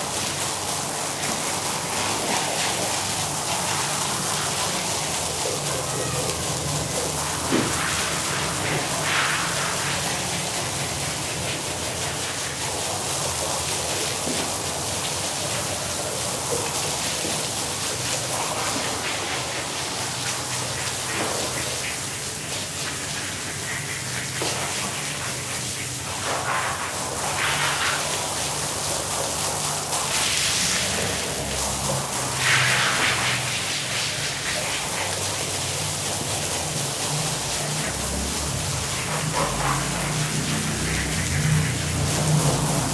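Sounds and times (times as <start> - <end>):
water spraying onto a rug: 0.0 - 42.9.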